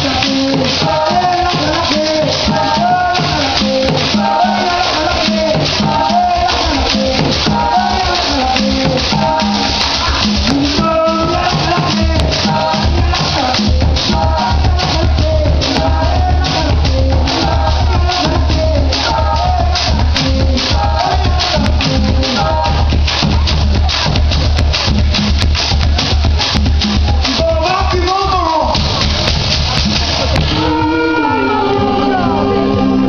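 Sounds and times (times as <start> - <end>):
person singing: 0.0 - 24.8, 30.5 - 33.0
deep bass line: 0.0 - 33.0.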